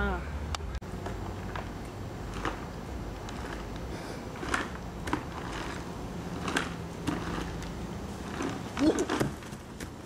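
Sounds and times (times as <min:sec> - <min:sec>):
steady low hum: 0:00.0 - 0:10.0
spring rider creaking and clacking: 0:01.0 - 0:10.0.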